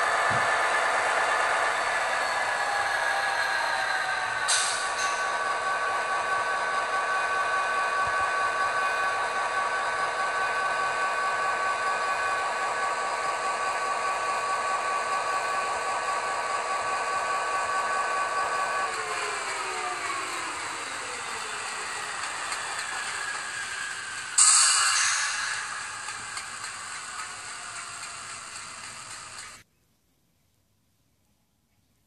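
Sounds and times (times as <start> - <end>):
model train diesel sound with whine: 0.0 - 29.7.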